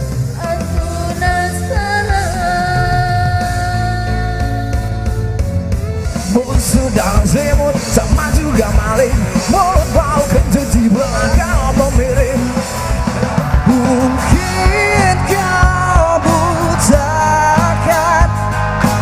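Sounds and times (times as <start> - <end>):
driving drums: 0.0 - 19.0
loud rock music: 0.0 - 19.0.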